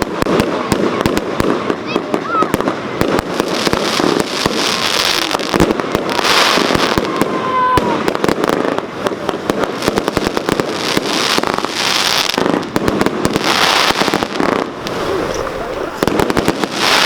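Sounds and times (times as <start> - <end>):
fireworks hiss: 0.0 - 17.0
fireworks shots and sharp bangs: 0.0 - 17.0.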